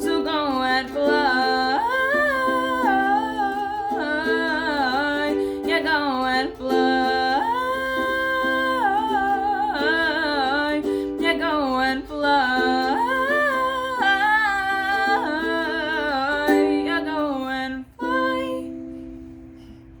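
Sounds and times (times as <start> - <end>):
plucked string accompaniment: 0.0 - 20.0.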